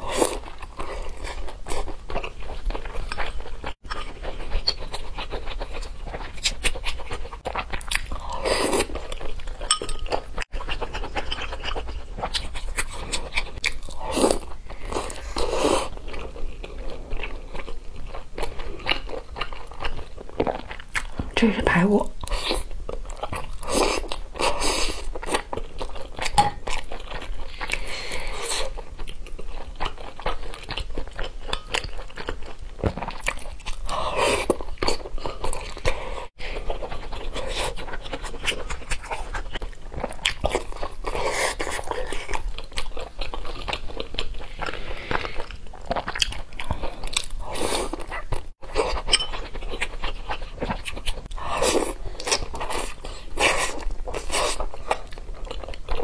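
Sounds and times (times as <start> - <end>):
wet chewing and smacking: 0.2 - 21.4, 22.2 - 56.0.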